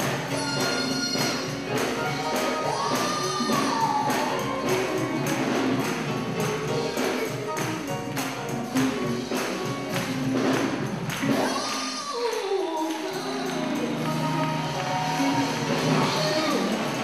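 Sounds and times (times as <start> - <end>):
live band playing: 0.0 - 17.0
tambourine jingling: 0.0 - 17.0.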